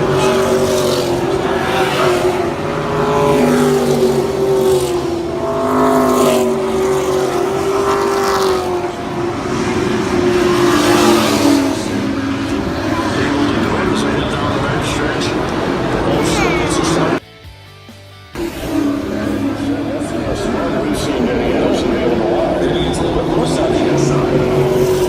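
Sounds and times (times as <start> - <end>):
race car engines: 0.0 - 17.2, 18.2 - 25.0.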